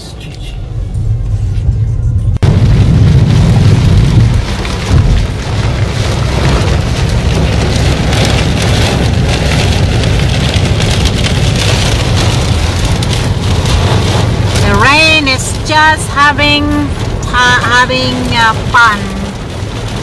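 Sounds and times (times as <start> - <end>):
loud low rumble: 0.0 - 20.0
heavy rain pouring: 2.2 - 20.0.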